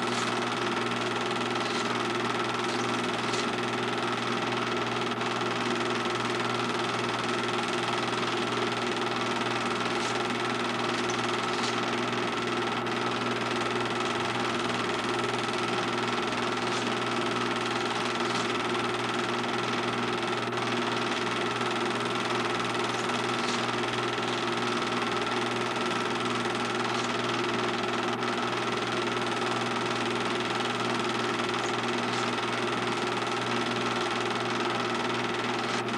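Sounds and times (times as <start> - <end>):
film projector whirring: 0.0 - 35.9.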